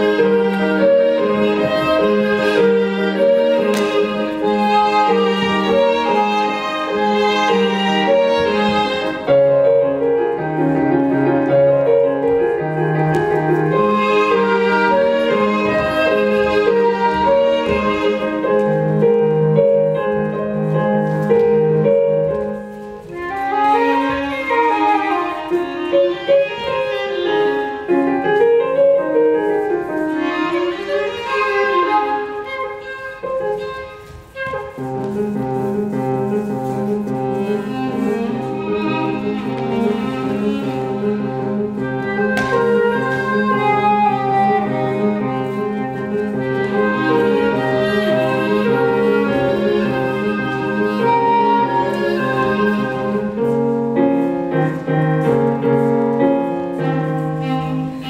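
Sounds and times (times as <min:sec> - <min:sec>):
chamber music for piano flute viola: 0:00.0 - 0:58.0.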